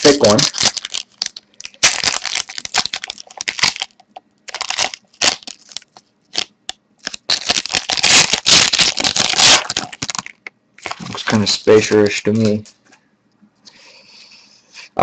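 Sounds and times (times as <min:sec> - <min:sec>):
wrapper crinkling and tearing: 0:00.0 - 0:12.6.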